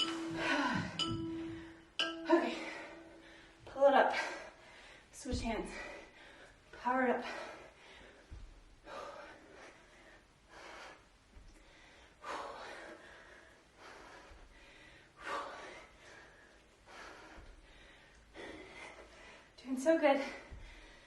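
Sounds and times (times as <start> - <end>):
woman breathing hard: 0.0 - 19.6, 20.3 - 21.0.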